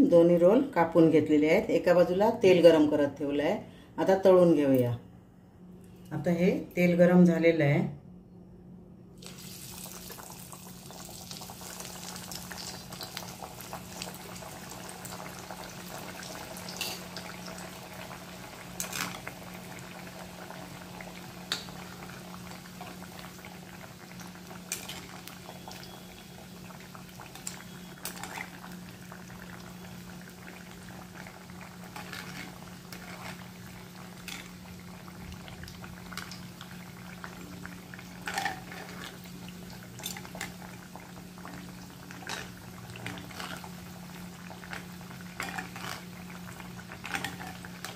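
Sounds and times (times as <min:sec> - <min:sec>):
deep-frying sizzling hiss: 0:09.2 - 0:47.9.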